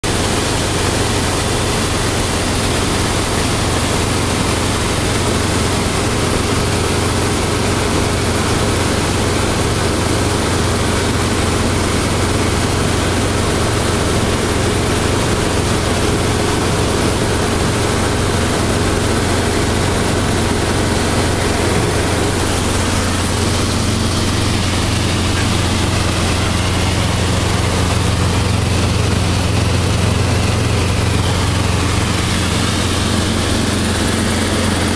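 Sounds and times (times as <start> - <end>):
helicopter engine and rotors drone: 0.0 - 34.9.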